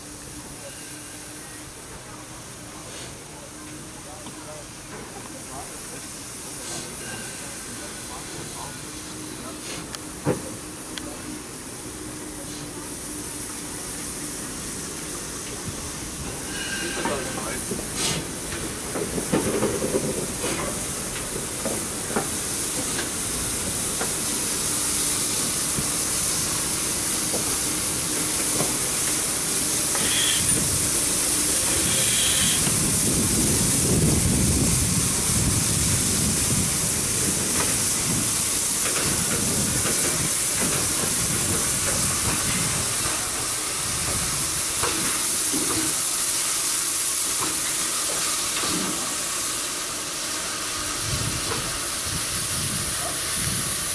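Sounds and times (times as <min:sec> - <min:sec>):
steam locomotive hissing: 0:00.0 - 0:53.9.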